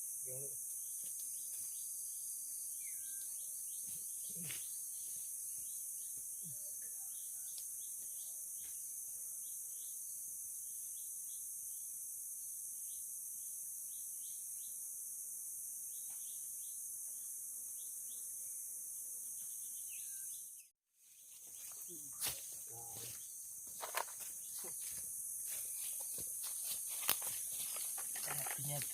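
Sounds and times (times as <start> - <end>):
insect chorus drone: 0.0 - 28.9
short insect chirps: 0.0 - 28.9.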